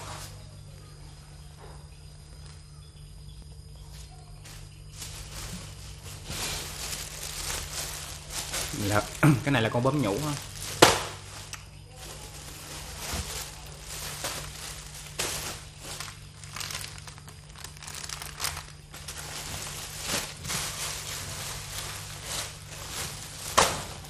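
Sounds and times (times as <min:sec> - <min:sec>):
plastic wrap crinkling: 0:03.8 - 0:24.0.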